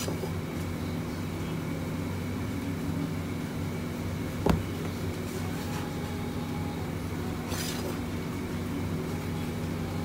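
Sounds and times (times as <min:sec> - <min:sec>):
factory machinery humming: 0:00.0 - 0:10.0.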